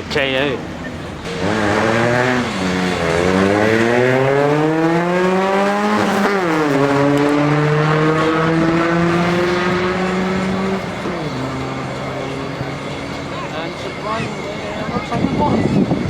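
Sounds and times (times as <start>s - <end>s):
car engine accelerating hard: 0.1s - 16.0s.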